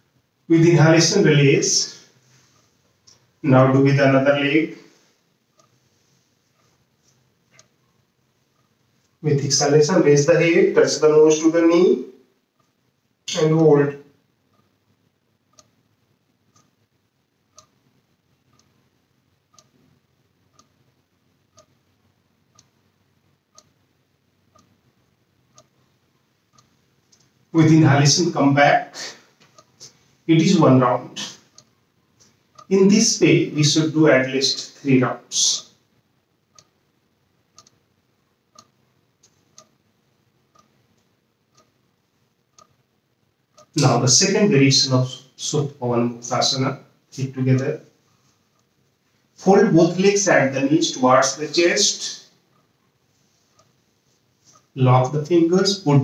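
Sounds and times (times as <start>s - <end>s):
faint clock ticking: 0.0s - 9.6s, 10.2s - 56.0s.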